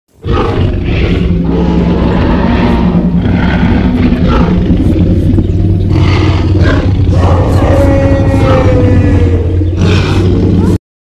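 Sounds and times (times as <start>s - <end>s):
deep drone: 0.1s - 10.8s
dinosaur growl: 0.2s - 10.8s.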